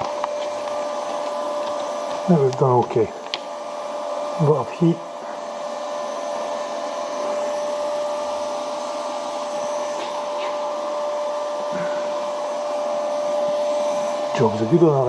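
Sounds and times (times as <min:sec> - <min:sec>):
electric blower motor whirring: 0:00.0 - 0:15.0.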